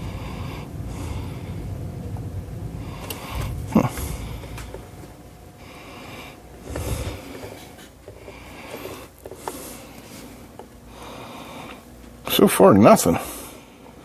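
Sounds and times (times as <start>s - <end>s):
man breathing: 0.0s - 12.0s, 13.1s - 14.0s.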